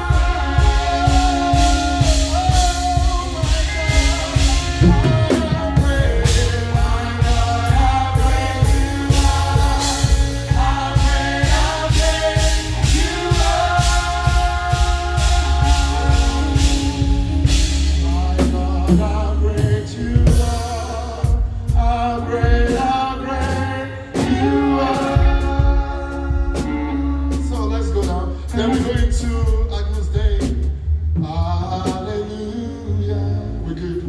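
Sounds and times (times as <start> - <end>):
drum kit: 0.0 - 32.2
heavy bass line: 0.0 - 34.0
person singing: 0.0 - 34.0.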